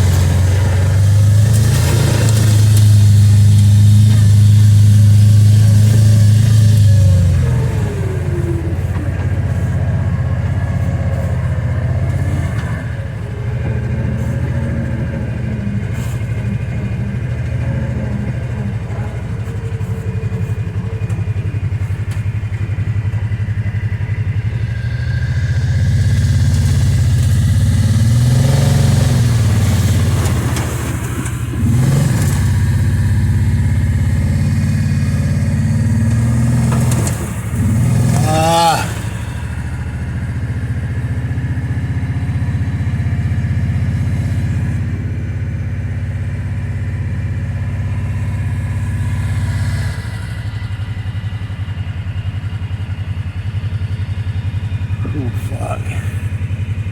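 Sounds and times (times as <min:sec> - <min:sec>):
engine revving: 0:00.0 - 0:56.9
utility vehicle engine running: 0:00.0 - 0:56.9.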